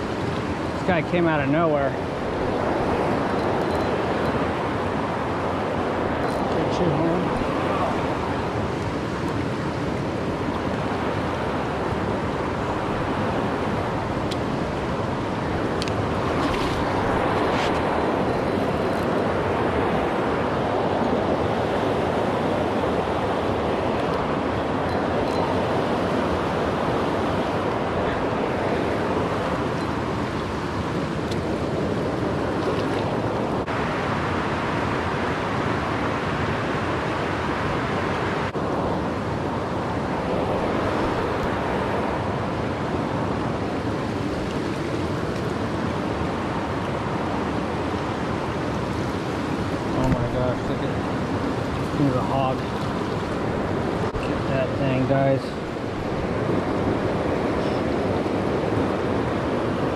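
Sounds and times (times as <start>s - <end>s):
river flowing over rocks: 0.0s - 59.9s.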